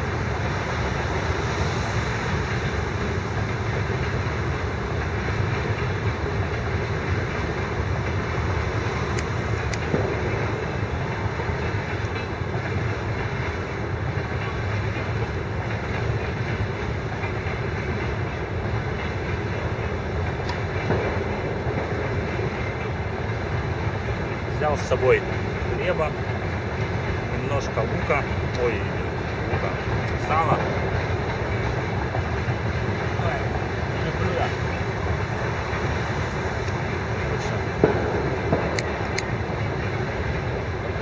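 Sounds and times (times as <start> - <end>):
train wheels on rails: 0.0 - 41.0.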